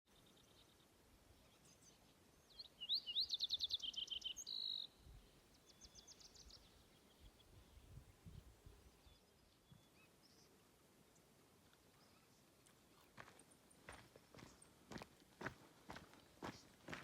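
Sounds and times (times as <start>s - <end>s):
songbird singing: 0.1s - 17.0s.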